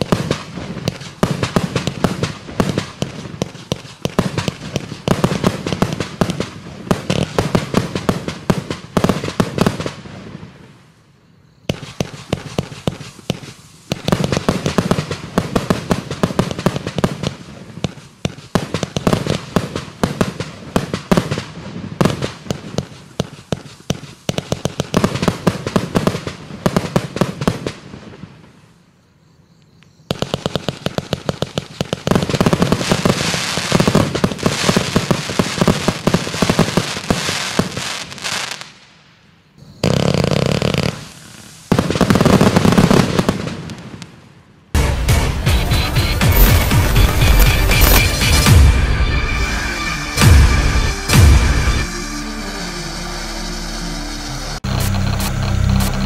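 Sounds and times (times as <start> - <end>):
fireworks launching and bursting: 0.0 - 28.9, 30.1 - 56.0.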